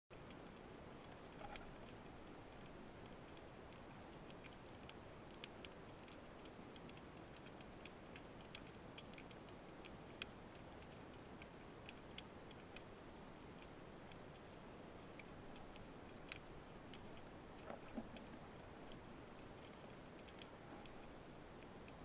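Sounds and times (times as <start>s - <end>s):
low steady hiss: 0.1s - 22.0s
underwater clicks: 0.2s - 22.0s.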